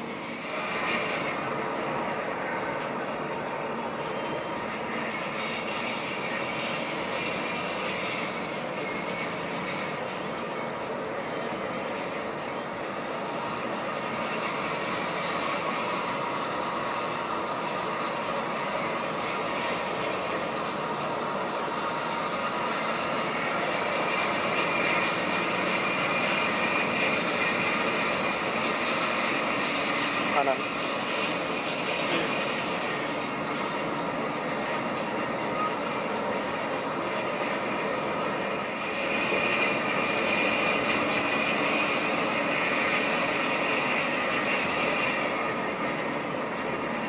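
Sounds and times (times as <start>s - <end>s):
bus engine and road noise: 0.0s - 47.0s.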